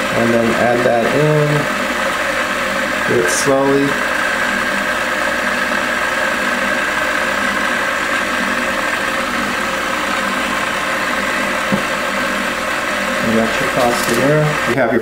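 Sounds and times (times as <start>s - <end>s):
stand mixer motor humming: 0.0s - 15.0s.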